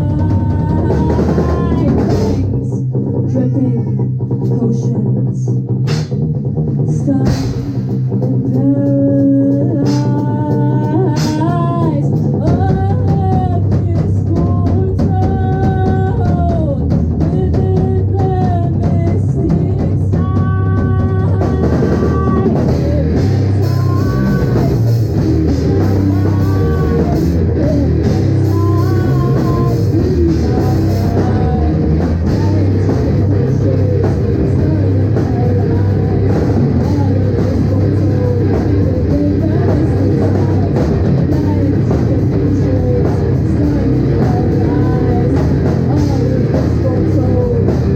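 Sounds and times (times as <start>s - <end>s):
rock band playing live: 0.0s - 4.6s, 5.6s - 47.9s
drum kit: 0.0s - 47.9s
electric guitar: 0.0s - 47.9s.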